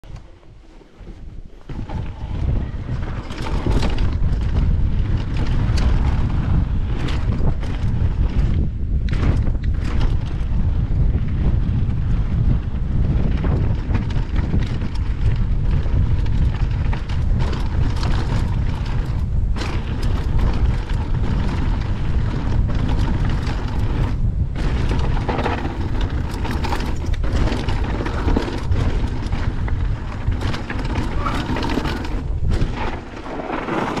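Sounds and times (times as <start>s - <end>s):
wind buffeting microphone: 0.0s - 34.0s
bike rattling: 0.1s - 34.0s.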